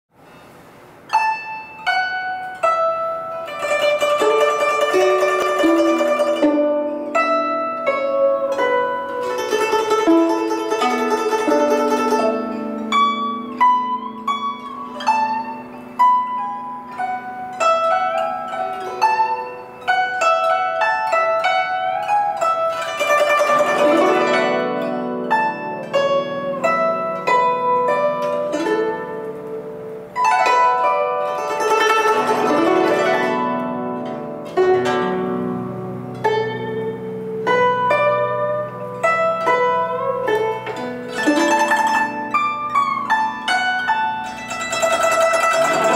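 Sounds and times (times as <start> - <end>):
plucked zither melody: 0.2 - 45.9.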